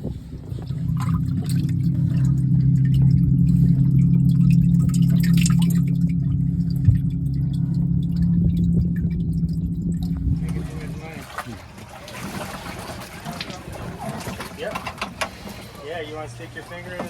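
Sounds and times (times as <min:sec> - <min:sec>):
water dripping and trickling: 0:00.0 - 0:15.6
low motor hum: 0:00.0 - 0:17.0.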